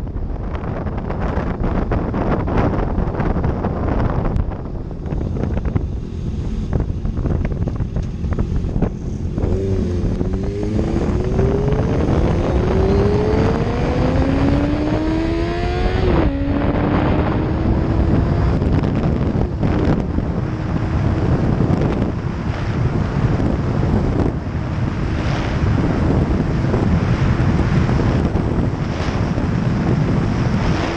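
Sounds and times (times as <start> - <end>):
wind buffeting microphone: 0.0 - 30.9
motorcycle engine revving: 5.0 - 30.9.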